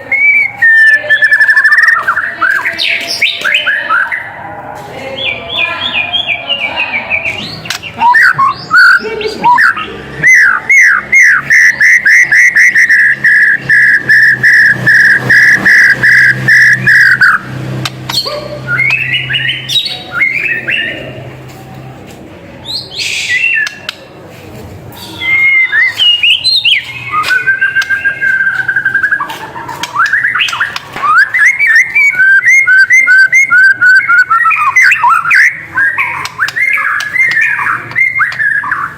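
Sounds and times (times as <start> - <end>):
bird singing: 0.0 - 4.4, 5.1 - 21.1, 25.0 - 38.9.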